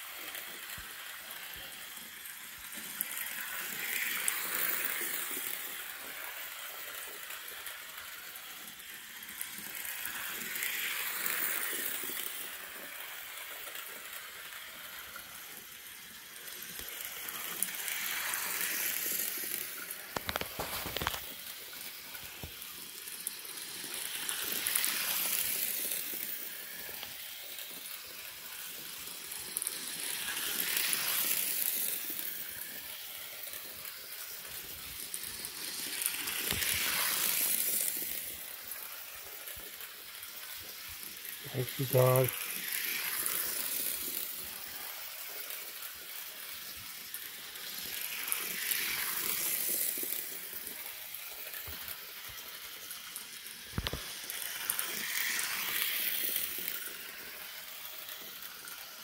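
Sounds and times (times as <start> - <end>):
steam hissing and sizzling: 0.0 - 59.0.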